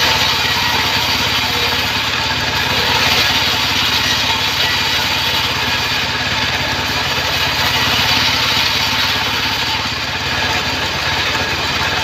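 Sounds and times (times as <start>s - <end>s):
bandsaw blade sawing wood: 0.0s - 12.0s
stationary engine running: 0.0s - 12.0s.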